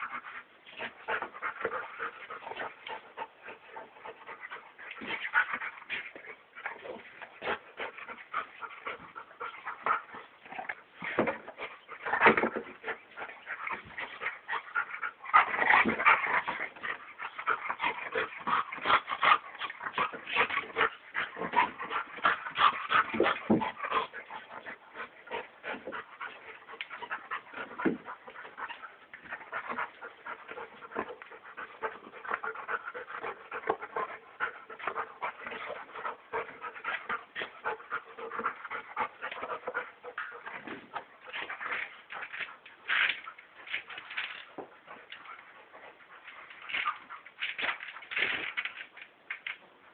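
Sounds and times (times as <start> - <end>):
dogs play-wrestling: 0.0 - 49.9.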